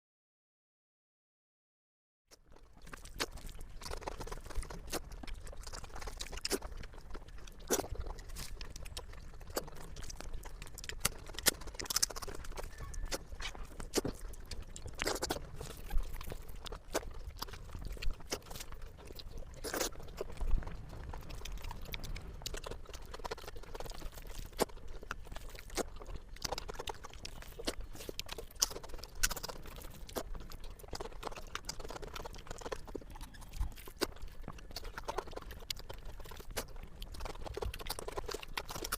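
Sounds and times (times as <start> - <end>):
close chewing and mouth sounds: 2.3 - 38.9.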